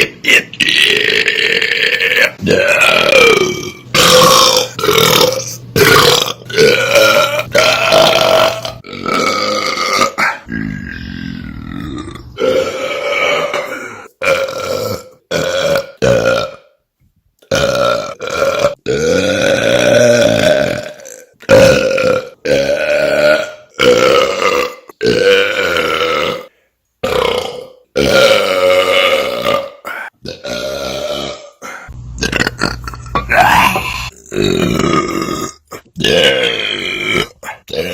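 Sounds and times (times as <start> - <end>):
man belching loudly: 0.0 - 16.7, 17.5 - 37.9.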